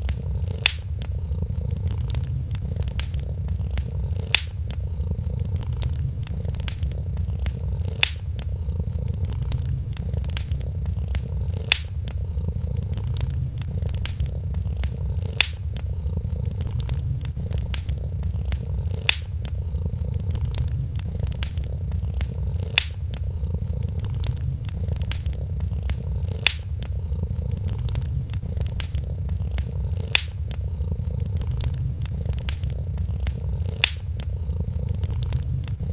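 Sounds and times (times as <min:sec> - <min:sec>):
cat purring: 0:00.0 - 0:35.9
wood fire crackling and popping: 0:00.0 - 0:35.9.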